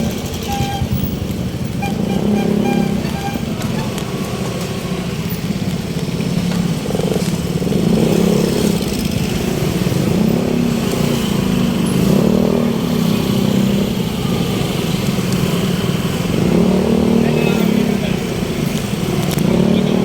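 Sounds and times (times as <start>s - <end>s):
street traffic: 0.0s - 20.0s
vehicle engine running: 0.0s - 20.0s.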